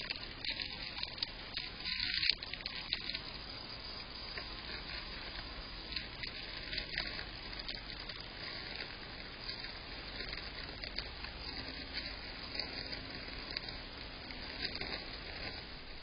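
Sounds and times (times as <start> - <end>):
microphone hiss: 0.0 - 16.0.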